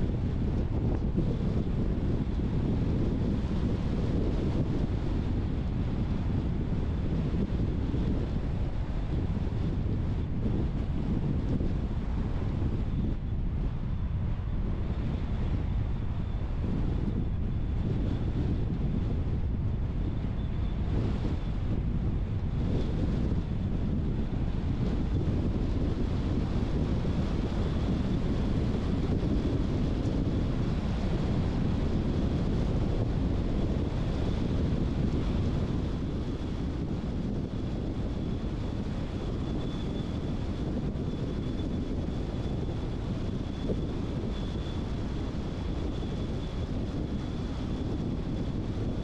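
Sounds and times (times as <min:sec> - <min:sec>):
car road and tyre noise: 0:00.0 - 0:49.0.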